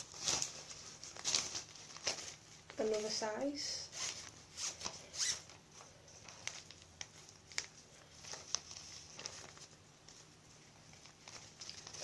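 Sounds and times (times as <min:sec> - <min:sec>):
fabric bags rustling: 0:00.0 - 0:12.0.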